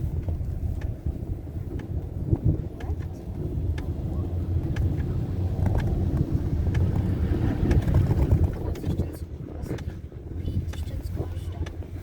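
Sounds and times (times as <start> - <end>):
chairlift rumble: 0.0 - 12.0.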